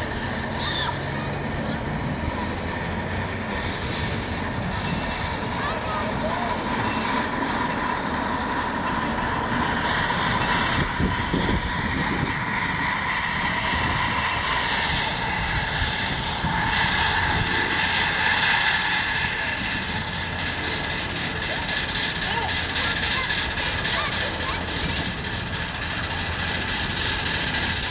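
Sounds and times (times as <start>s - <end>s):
rail noise: 0.0s - 27.9s
steam locomotive running: 0.0s - 27.9s.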